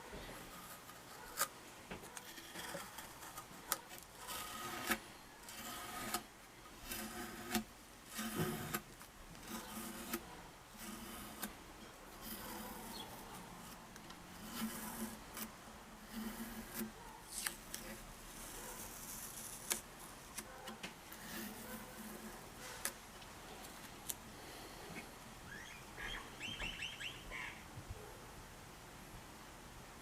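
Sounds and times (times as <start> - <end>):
hand rubbing or scraping wood: 0.0 - 27.4.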